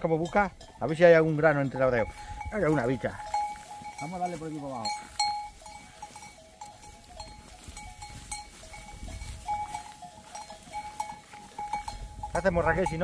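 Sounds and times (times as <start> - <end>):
sheep bells clinking: 0.0 - 13.0.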